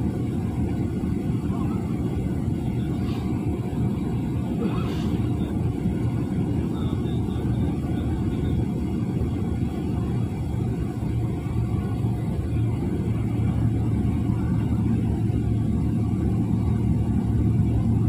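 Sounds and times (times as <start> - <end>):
aircraft engines low rumble: 0.0 - 18.0.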